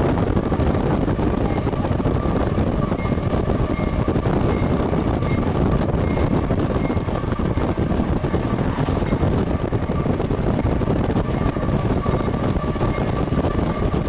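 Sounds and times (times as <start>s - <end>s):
freight train moving: 0.0s - 14.0s
road vehicle driving: 0.0s - 14.0s
wind buffeting microphone: 0.0s - 14.0s.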